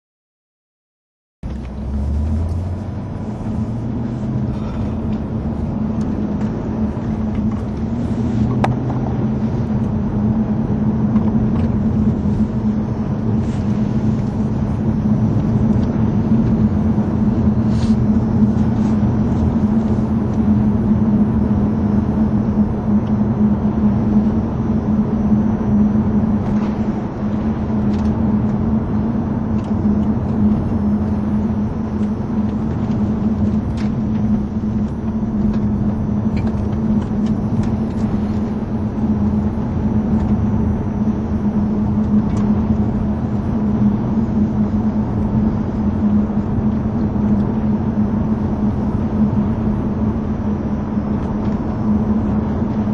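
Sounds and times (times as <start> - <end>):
car engine droning: 1.4 - 52.9
tyre and road noise: 1.4 - 52.9.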